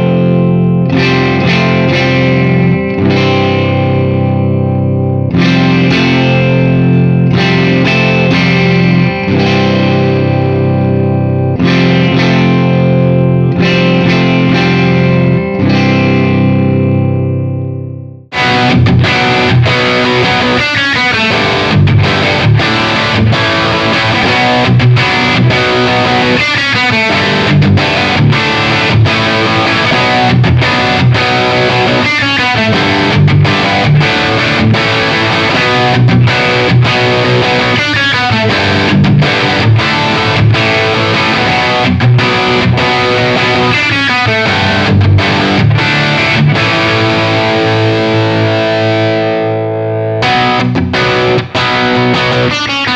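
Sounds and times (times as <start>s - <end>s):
distorted electric guitar riff: 0.0s - 52.9s.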